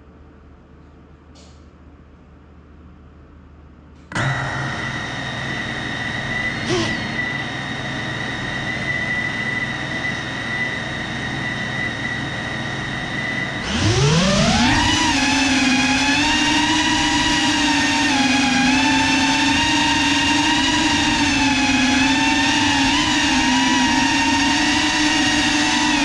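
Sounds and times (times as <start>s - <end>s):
drone motors whining: 4.1s - 26.0s.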